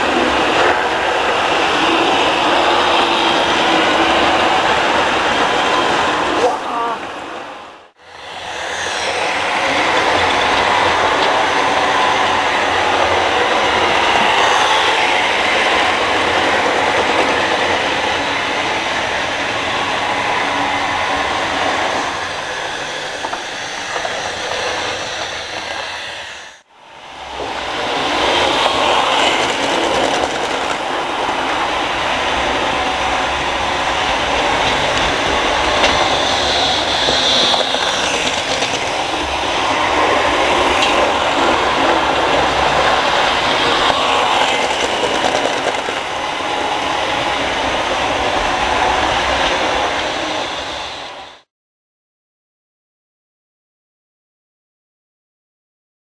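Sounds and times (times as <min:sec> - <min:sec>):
model trains running on track: 0:00.0 - 0:51.5.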